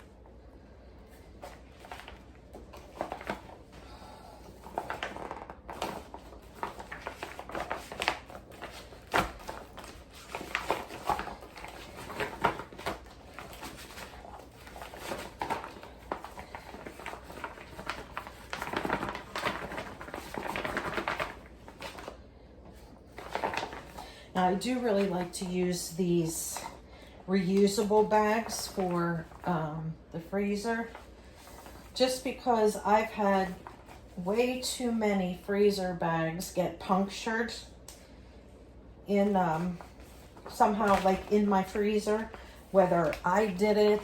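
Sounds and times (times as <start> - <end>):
plastic bag rustling: 0.8 - 29.6, 30.2 - 34.3, 39.2 - 44.0.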